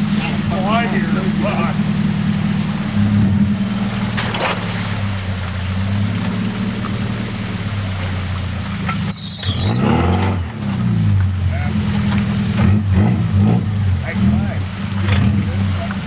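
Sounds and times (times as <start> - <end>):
car engine under load: 0.0 - 16.0.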